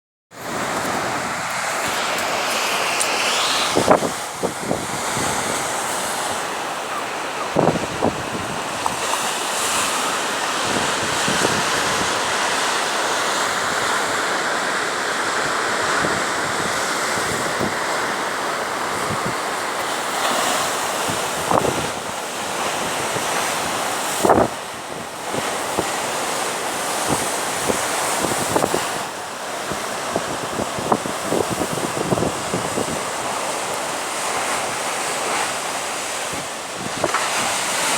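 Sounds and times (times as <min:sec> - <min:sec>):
sea waves washing: 0:00.4 - 0:37.9
wind buffeting microphone: 0:00.4 - 0:37.9.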